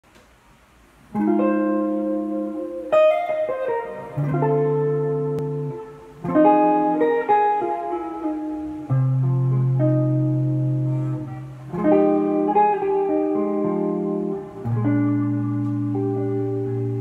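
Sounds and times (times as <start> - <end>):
electric guitar chords: 1.1 - 17.0.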